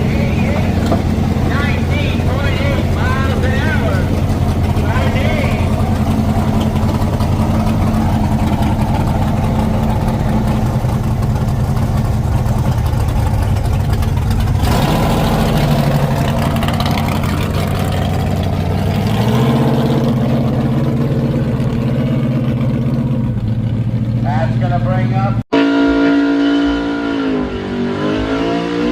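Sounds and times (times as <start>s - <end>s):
truck engine at high revs: 0.0s - 28.9s.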